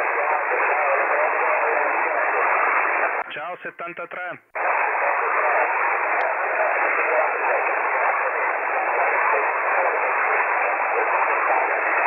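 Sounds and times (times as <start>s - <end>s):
radio band noise hiss: 0.0s - 12.0s.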